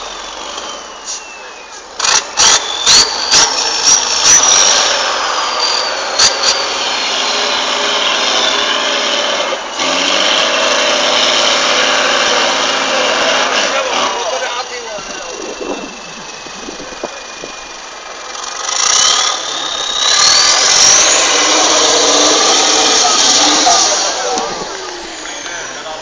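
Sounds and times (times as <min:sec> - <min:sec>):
truck engine whining under load: 0:00.0 - 0:26.0.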